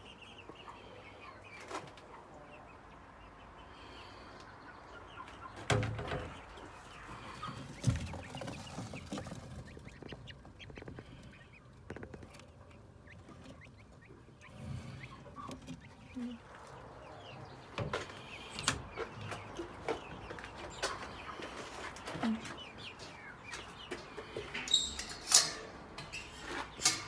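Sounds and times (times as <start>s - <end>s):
chicks cheeping: 0.0s - 27.0s.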